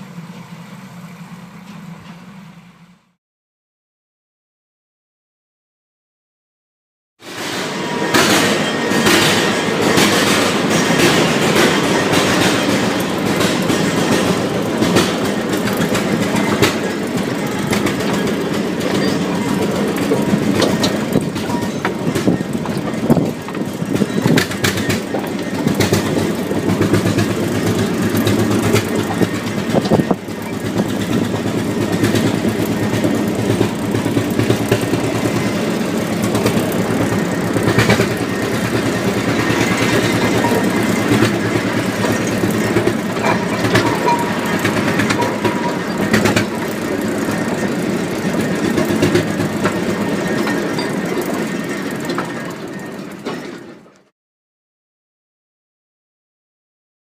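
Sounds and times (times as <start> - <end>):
train rumbling on track: 0.0 - 3.2, 7.2 - 54.1
wheel and rail clicks: 7.4 - 54.1.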